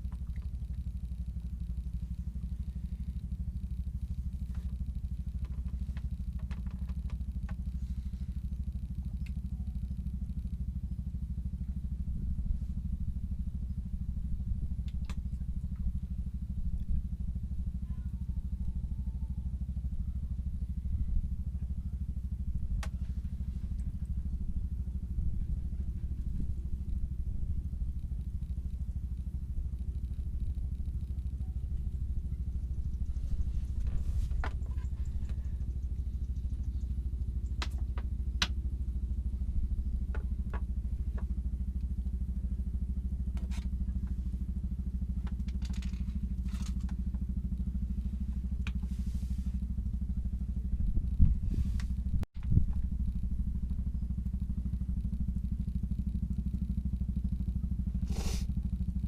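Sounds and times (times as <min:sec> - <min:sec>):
low motor hum: 0:00.0 - 0:59.0.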